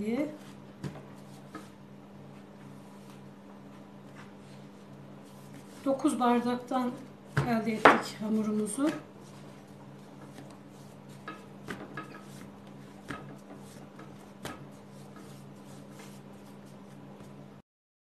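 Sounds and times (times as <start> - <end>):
steady low hum: 0.0 - 17.6
hands rubbing dough: 0.3 - 17.6.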